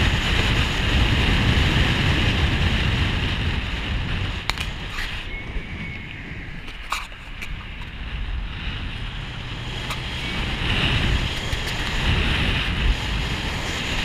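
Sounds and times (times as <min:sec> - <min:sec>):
tyre and road rumble: 0:00.0 - 0:14.0
wind buffeting microphone: 0:00.0 - 0:14.0.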